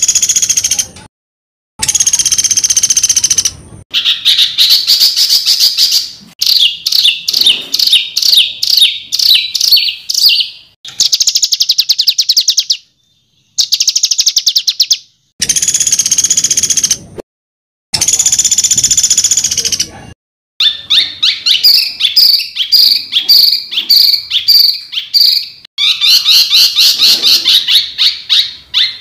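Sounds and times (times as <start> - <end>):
songbird trills and whistles: 1.8 - 17.0, 20.6 - 29.0.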